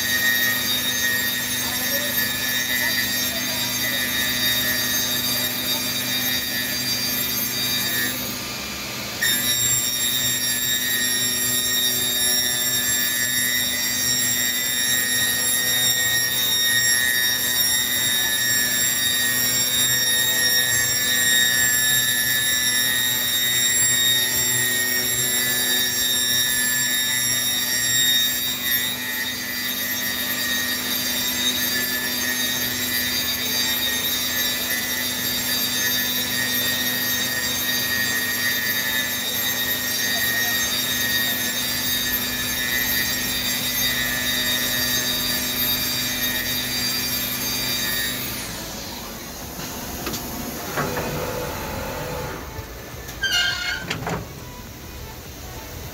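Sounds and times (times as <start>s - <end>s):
boring machine whining: 0.0s - 55.9s.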